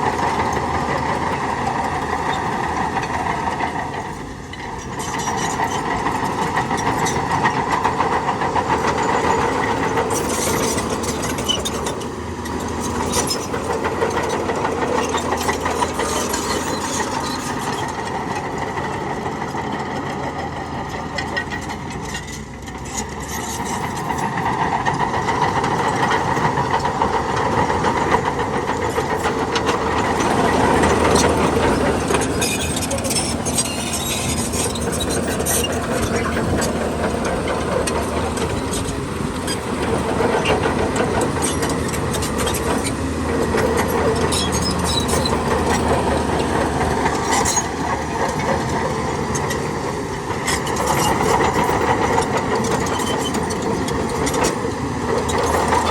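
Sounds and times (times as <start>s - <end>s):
diesel earthmoving machinery running: 0.0s - 55.9s.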